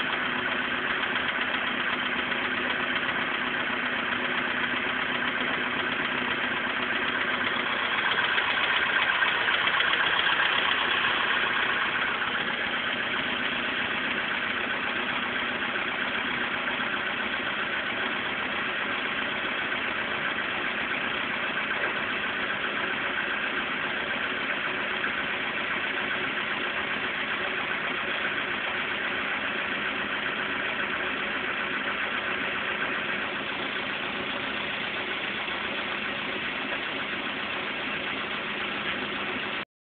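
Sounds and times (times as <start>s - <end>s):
car engine idling with knock: 0.0s - 39.6s.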